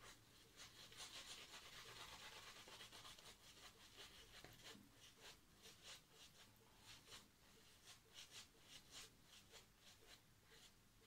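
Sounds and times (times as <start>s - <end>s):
shaving brush swishing lather: 0.0s - 10.8s.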